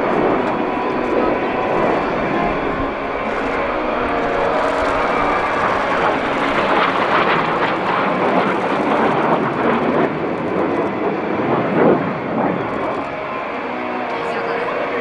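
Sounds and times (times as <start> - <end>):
aircraft engine rush: 0.0 - 15.0.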